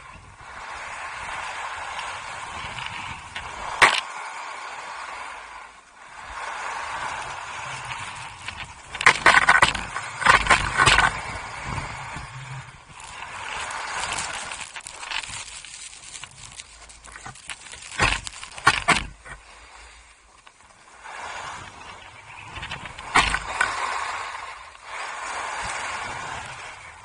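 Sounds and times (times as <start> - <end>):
skis scraping over snow: 0.0 - 27.0.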